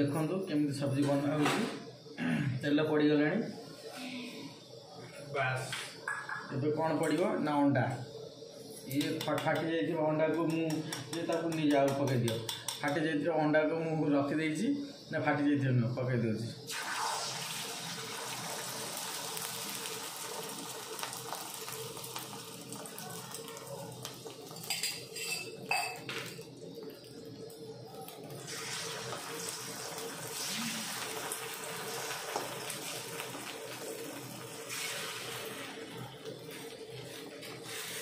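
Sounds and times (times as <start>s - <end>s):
eggs sizzling in hot oil: 2.7s - 38.0s.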